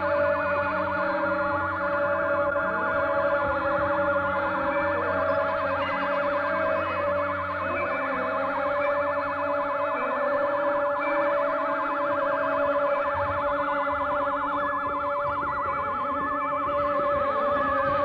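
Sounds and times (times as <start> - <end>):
held drone tones: 0.0 - 18.0.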